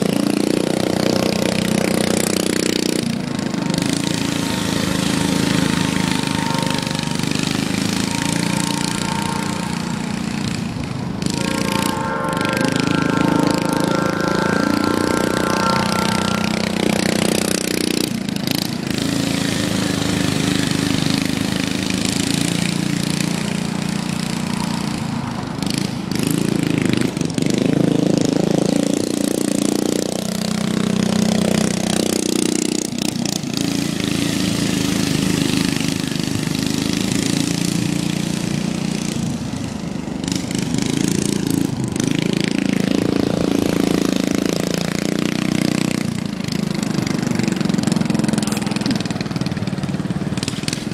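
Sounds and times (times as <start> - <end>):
lawn mower engine revving: 0.0 - 50.9.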